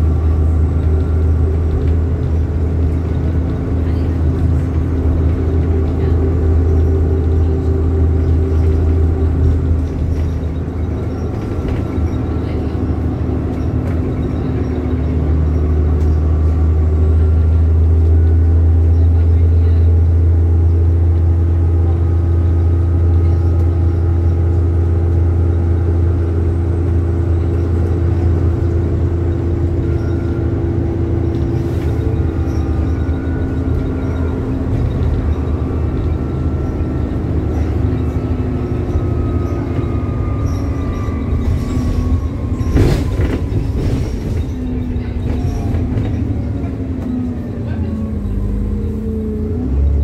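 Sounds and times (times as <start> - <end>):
bus engine droning: 0.0 - 50.0
drivetrain whine: 0.0 - 50.0.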